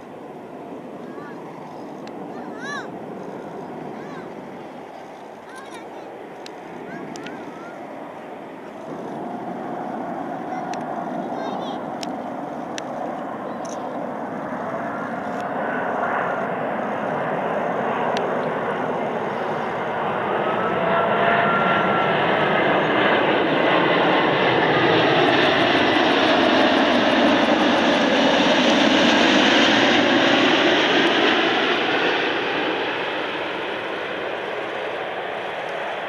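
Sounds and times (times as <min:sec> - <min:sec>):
jet airliner roar: 0:00.0 - 0:36.0
jet engine whine: 0:00.0 - 0:36.0.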